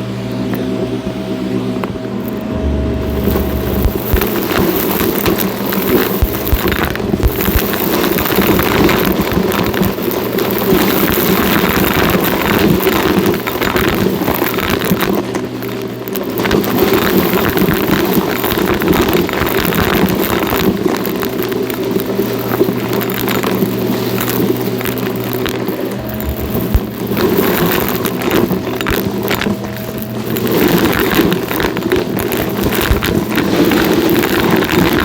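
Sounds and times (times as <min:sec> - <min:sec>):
vacuum cleaner running: 0:00.0 - 0:35.0
debris rattling in vacuum: 0:02.1 - 0:35.0.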